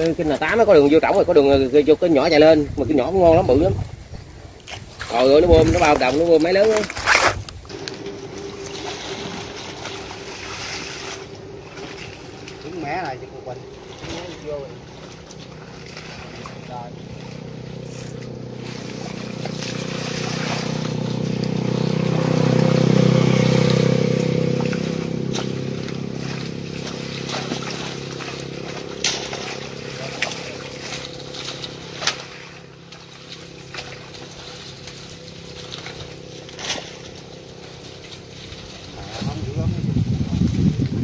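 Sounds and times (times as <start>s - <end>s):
small boat engine running: 0.0s - 41.0s.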